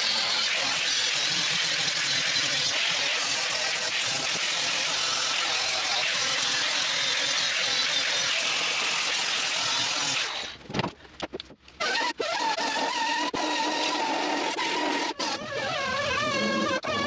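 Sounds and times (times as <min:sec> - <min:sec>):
angle grinder grinding metal: 0:00.0 - 0:10.5, 0:11.8 - 0:17.0.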